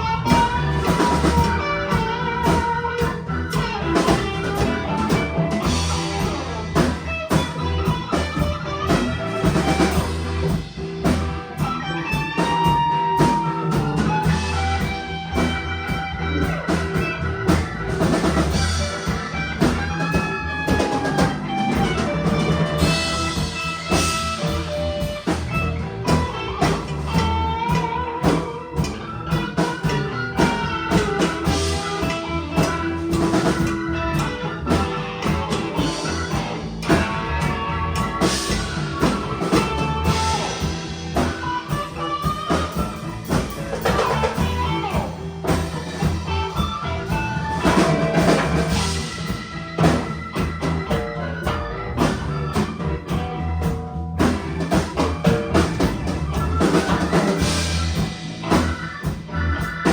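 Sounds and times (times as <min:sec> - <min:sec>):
drum kit beat: 0:00.0 - 0:59.9
guitar: 0:00.0 - 0:59.9.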